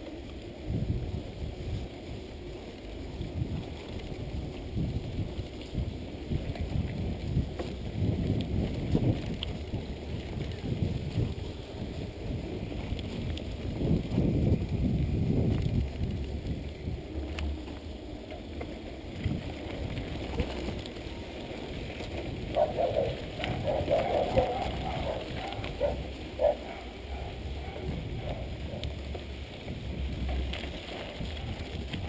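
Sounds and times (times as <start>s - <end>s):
bike rattling: 0.0s - 32.0s
tyres crunching on dirt: 0.0s - 32.0s
wind noise: 0.0s - 32.0s.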